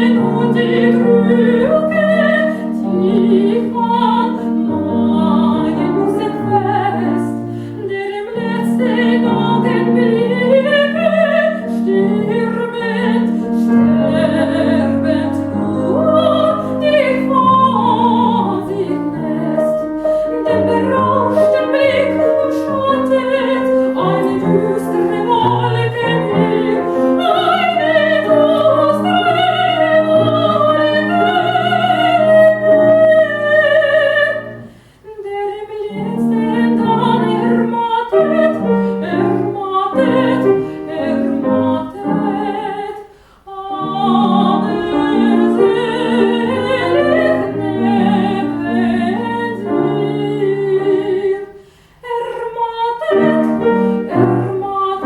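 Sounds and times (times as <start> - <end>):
piano accompaniment: 0.0 - 55.0
woman singing with vibrato: 0.0 - 55.0.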